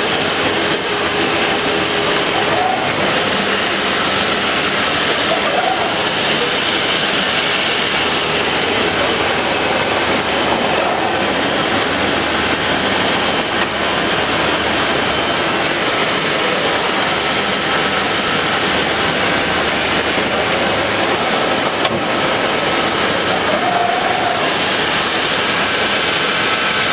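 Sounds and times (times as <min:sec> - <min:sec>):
busy machinery hall din: 0:00.0 - 0:26.9
drilling machine running: 0:00.0 - 0:26.9.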